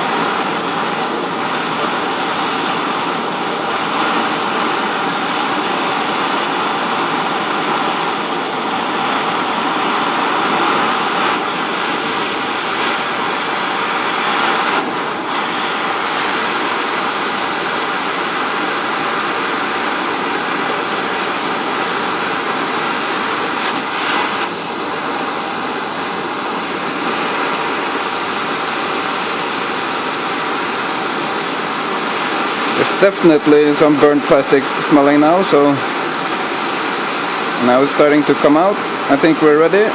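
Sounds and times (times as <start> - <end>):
blowtorch flame hissing: 0.0 - 39.9.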